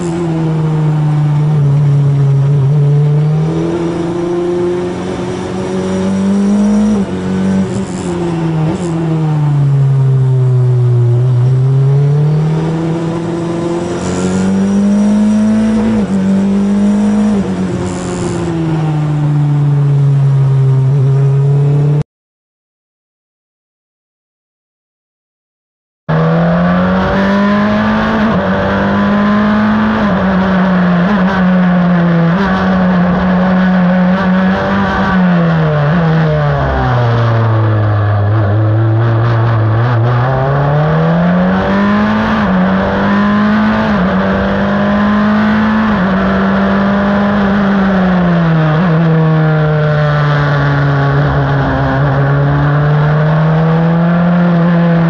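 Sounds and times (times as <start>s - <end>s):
race car engine at high revs: 0.0s - 22.0s, 26.1s - 55.0s.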